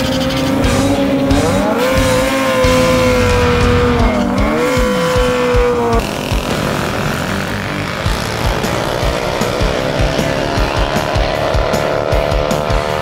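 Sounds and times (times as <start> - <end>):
background music: 0.0 - 13.0
motorcycle engine high revs: 0.0 - 13.0.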